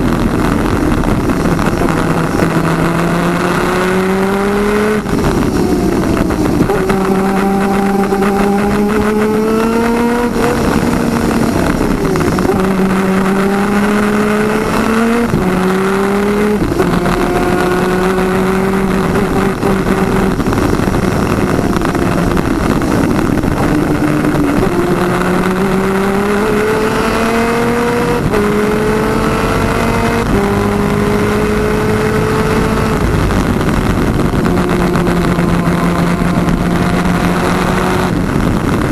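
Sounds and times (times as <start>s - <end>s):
kart engine revving through gears: 0.0s - 38.9s
steady rush of noise: 0.0s - 38.9s.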